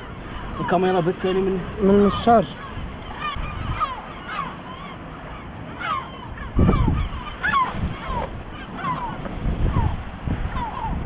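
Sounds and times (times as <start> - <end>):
gulls calling: 0.0 - 11.0
wind buffeting microphone: 0.0 - 11.0.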